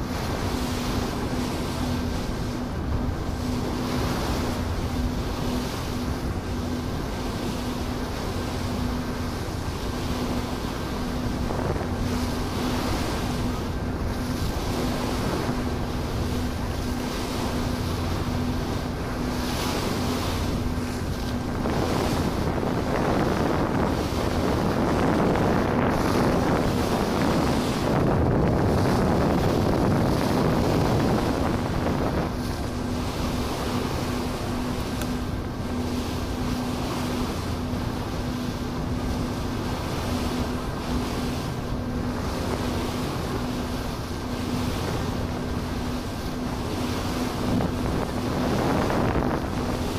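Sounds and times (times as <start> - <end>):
ferry engine hum: 0.0 - 49.9
rushing water: 0.0 - 49.9
wind buffeting microphone: 0.0 - 49.9.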